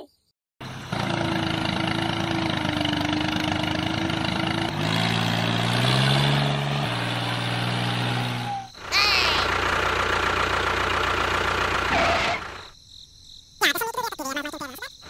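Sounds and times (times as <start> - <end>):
tractor engine running: 0.6 - 12.8.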